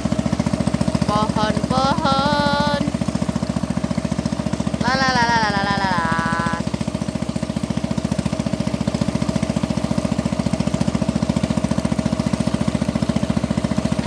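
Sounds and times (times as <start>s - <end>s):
boat motor chugging: 0.0s - 14.0s.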